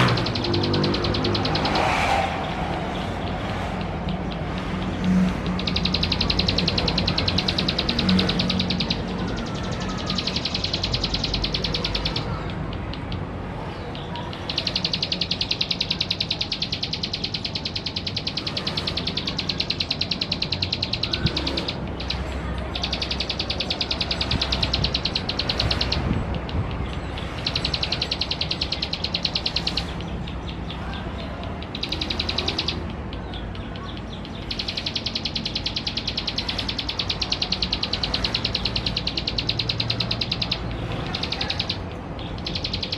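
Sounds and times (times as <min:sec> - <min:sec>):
bird singing rapid dry trill: 0:00.0 - 0:42.9.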